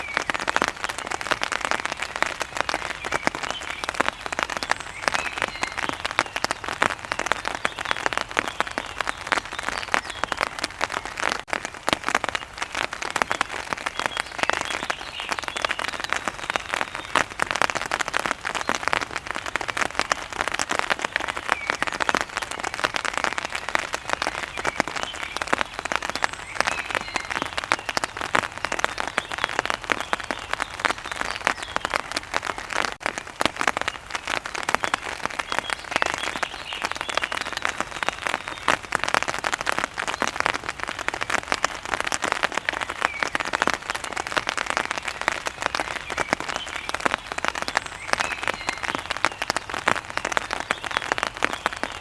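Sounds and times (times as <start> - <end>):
heavy rain pattering: 0.0 - 52.0.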